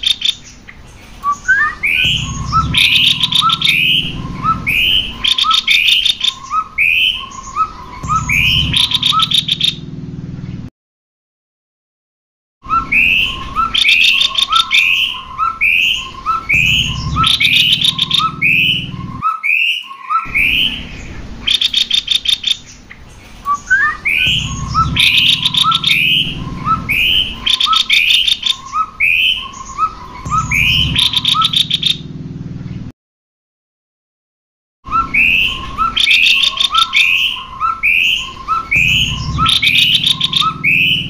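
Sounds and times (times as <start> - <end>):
harsh rattling bird trills: 0.0 - 10.6, 12.7 - 32.1, 34.9 - 41.0
birds calling paired notes: 0.0 - 10.7, 12.6 - 32.9, 34.9 - 41.0.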